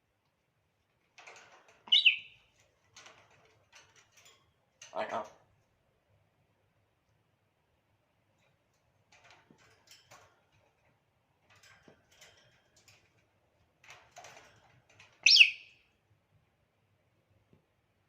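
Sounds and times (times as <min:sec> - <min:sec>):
faint clicks and rustles: 0:00.1 - 0:17.9.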